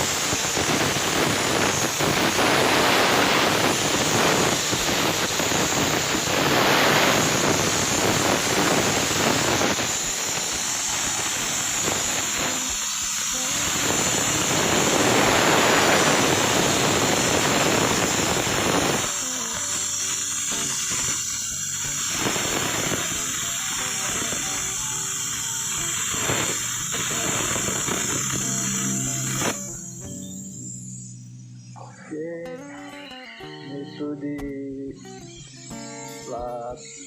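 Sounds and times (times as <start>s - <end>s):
plasma torch hissing: 0.0s - 31.1s.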